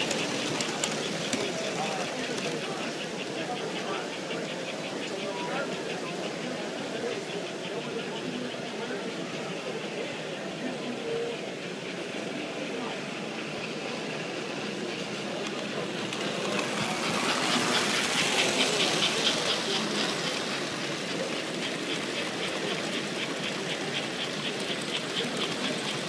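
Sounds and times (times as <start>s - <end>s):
model train wheels rumbling: 0.0s - 26.0s
train cars clicking on track: 0.0s - 26.0s.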